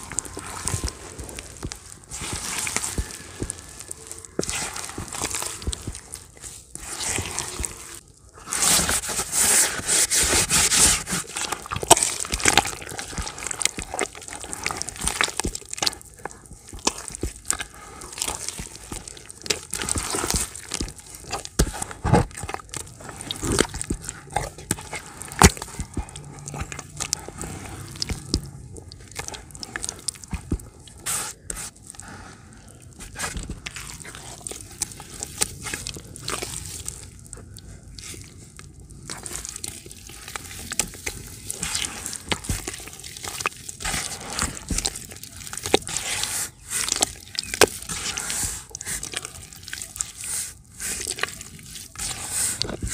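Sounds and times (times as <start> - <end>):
hand squelching mud in water: 0.0 - 52.9.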